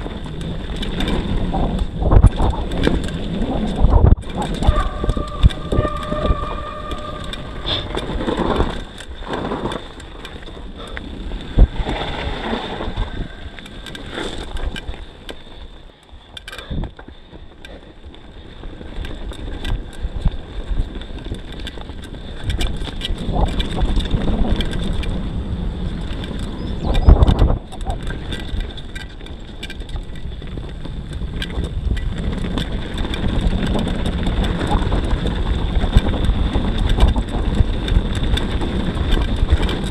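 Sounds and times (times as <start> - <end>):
wind buffeting microphone: 0.0 - 15.0, 18.3 - 39.9
bike rattling over bumps: 0.0 - 39.9
bike tyres rumbling on dirt: 0.0 - 39.9.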